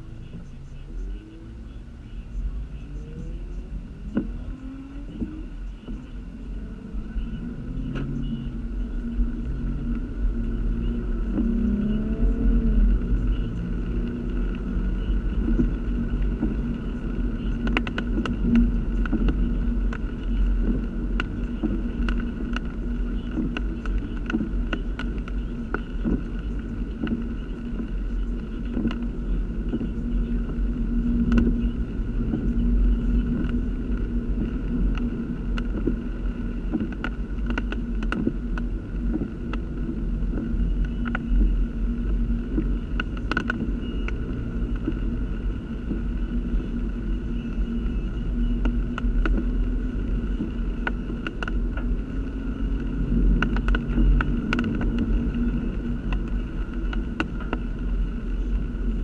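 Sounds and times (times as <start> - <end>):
low rumble on microphone: 0.0 - 59.0.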